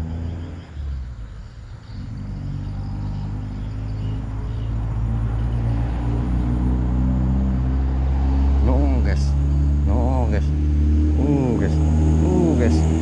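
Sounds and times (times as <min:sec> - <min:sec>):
vehicle engine rumble passing: 0:00.0 - 0:13.0.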